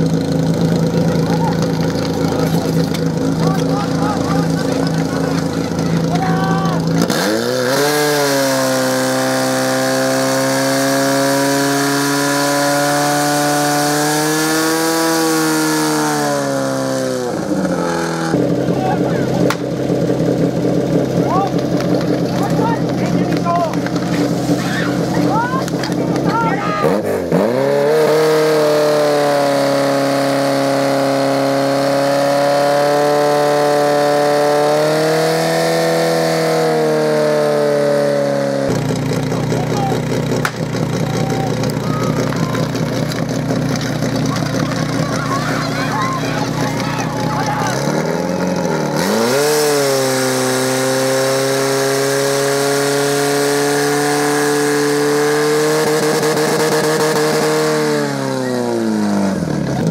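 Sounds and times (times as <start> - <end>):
small pump engine running: 0.0 - 59.9.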